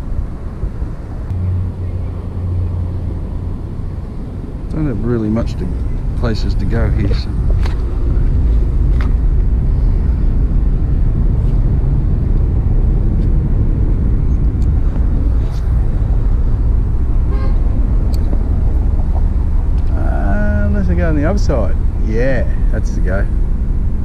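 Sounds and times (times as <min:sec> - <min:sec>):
loud low outdoor rumble: 0:00.0 - 0:24.0.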